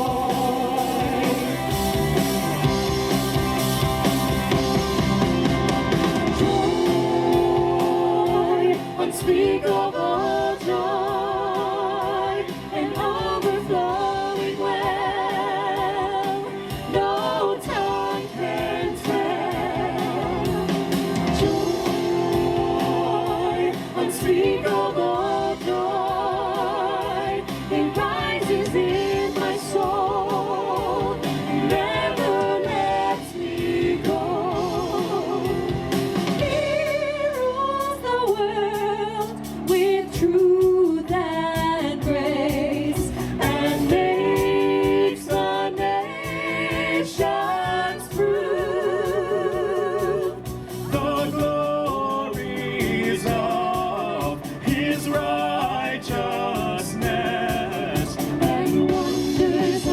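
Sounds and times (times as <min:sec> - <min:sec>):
guitar accompaniment: 0:00.0 - 0:48.0, 0:50.3 - 0:59.9.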